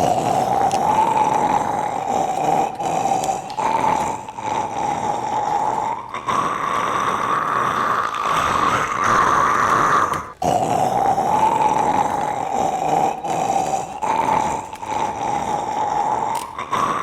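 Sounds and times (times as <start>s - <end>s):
loud rasping snoring: 0.0s - 17.0s.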